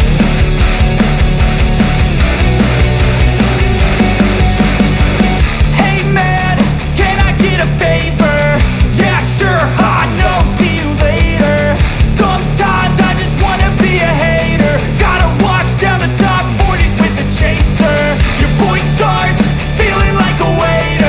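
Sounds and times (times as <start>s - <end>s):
rock music with distorted guitars: 0.0s - 21.0s.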